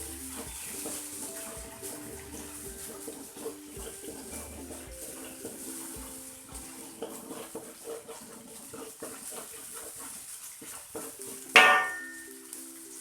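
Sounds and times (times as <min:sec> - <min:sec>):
spatula scraping wok: 0:00.0 - 0:12.4
light sizzling: 0:00.0 - 0:13.0.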